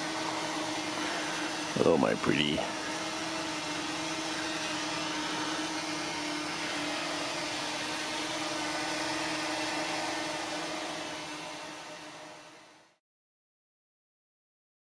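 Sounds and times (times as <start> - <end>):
drone propellers buzzing: 0.0 - 12.9.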